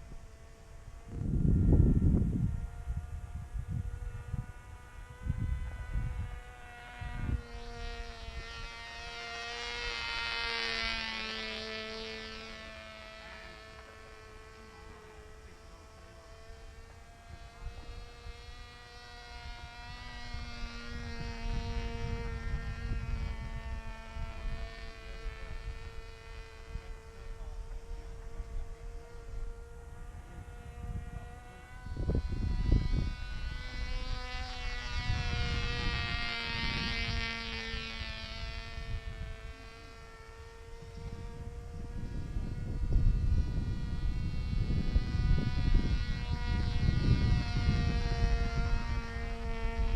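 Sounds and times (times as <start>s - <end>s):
model plane motor buzzing: 0.0s - 49.9s
wind rumbling on microphone: 0.0s - 49.9s.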